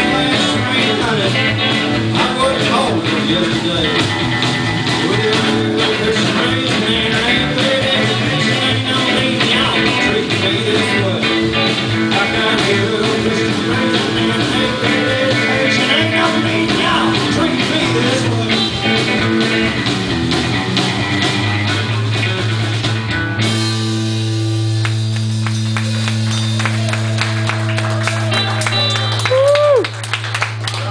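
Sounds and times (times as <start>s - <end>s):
live country band playing: 0.0s - 30.9s.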